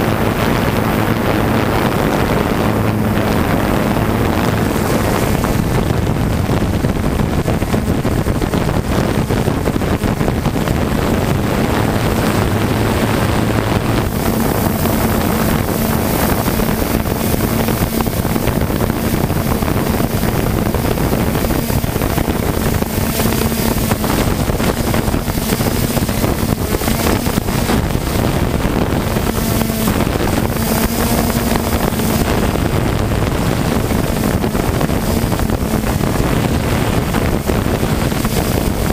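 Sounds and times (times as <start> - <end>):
drone propellers buzzing: 0.0 - 38.9
wind on microphone: 0.0 - 38.9.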